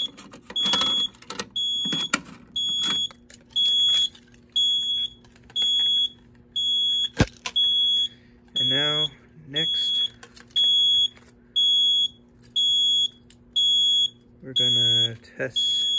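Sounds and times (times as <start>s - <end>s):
fire alarm beeping: 0.0s - 15.9s.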